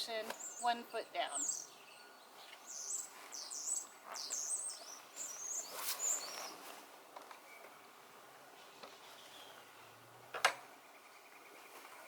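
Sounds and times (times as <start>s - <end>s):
faint outdoor background: 0.0s - 12.0s
songbirds chirping and warbling: 0.0s - 12.0s.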